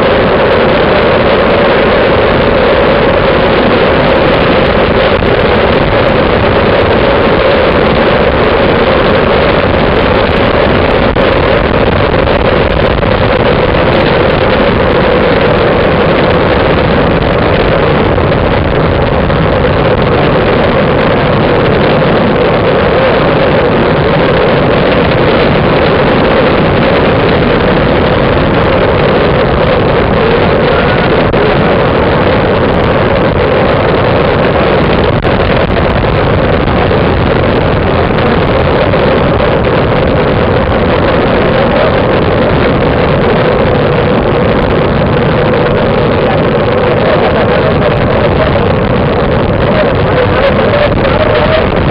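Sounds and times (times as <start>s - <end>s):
wind rush on microphone: 0.0s - 51.9s.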